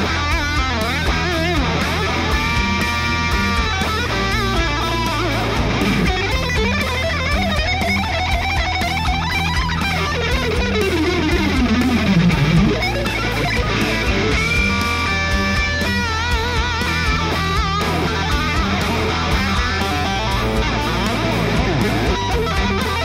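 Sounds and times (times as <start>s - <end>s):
backing track: 0.0s - 23.0s
electric guitar lead: 0.0s - 23.0s.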